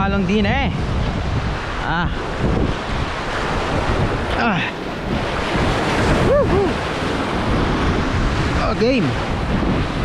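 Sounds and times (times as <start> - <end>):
waves washing onto rocky shore: 0.0 - 10.0
wind buffeting microphone: 0.0 - 10.0.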